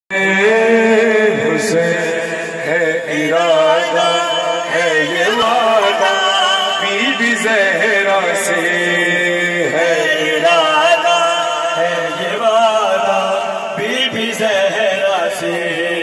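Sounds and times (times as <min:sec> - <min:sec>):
man chanting a lament over a pa: 0:00.1 - 0:16.0.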